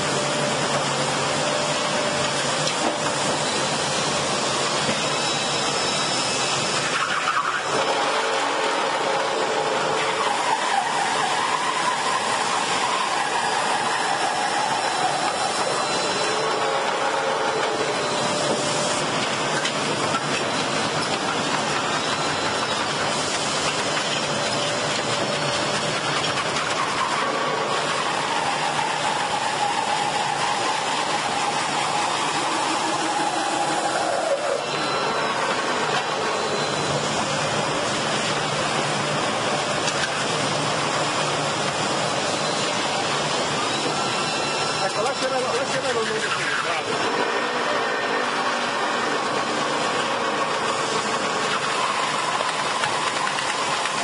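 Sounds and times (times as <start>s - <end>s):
industrial machinery running: 0.0s - 54.0s
whining tone: 0.0s - 54.0s.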